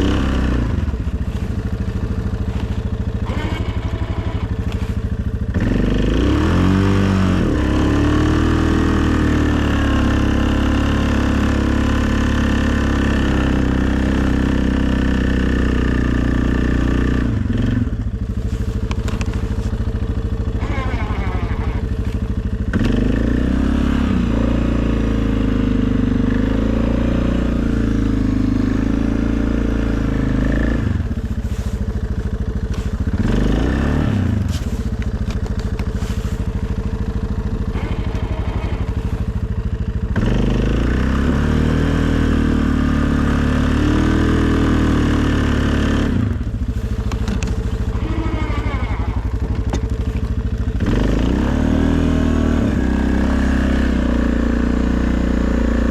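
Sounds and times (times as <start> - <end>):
atv engine running: 0.0 - 55.9.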